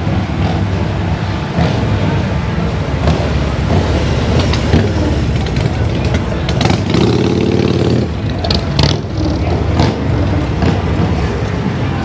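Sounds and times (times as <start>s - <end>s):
motorcycle engines running loudly: 0.0s - 12.0s.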